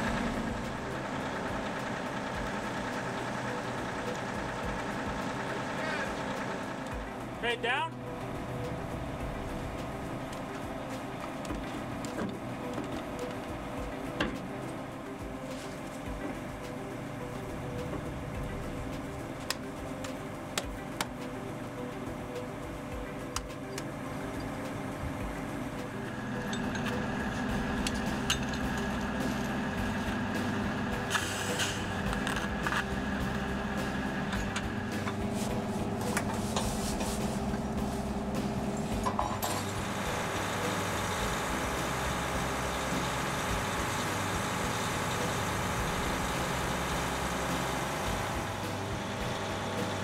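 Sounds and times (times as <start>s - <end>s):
heavy machinery engine running: 0.0s - 50.0s.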